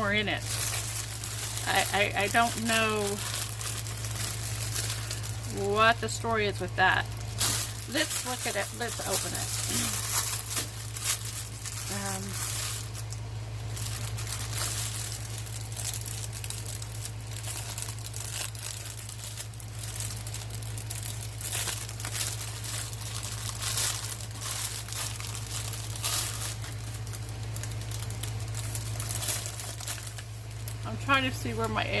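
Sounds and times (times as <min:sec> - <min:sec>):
plastic packaging crinkling and tearing: 0:00.0 - 0:32.0
steady low hum: 0:00.0 - 0:32.0.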